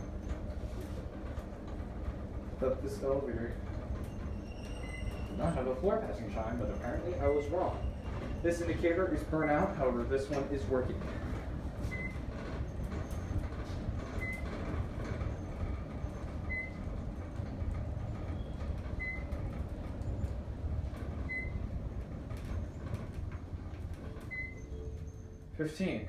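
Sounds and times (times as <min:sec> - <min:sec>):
elevator car rumbling: 0:00.0 - 0:26.0.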